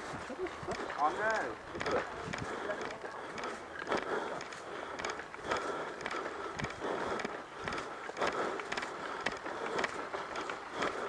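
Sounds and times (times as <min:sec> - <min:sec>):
footsteps crunching on gravel: 0:00.0 - 0:11.0.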